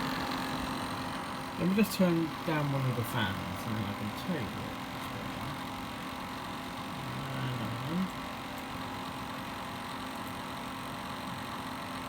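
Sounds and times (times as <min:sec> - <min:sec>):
computer fans whirring: 0:00.0 - 0:12.0.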